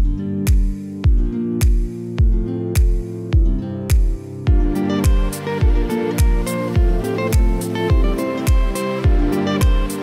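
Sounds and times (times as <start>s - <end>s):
music with deep thumping beat: 0.0s - 10.0s.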